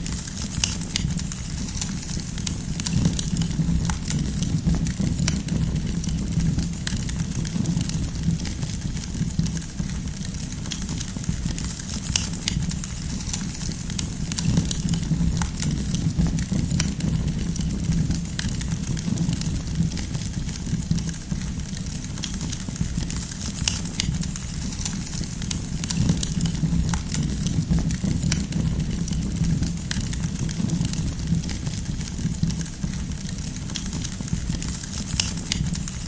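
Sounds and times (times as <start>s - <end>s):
campfire crackles and pops: 0.0s - 36.0s
low rumble of campfire flames: 0.0s - 36.0s.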